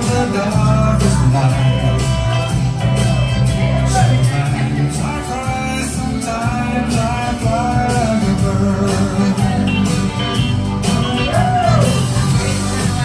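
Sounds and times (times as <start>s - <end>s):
song with singer over beat: 0.0s - 13.0s.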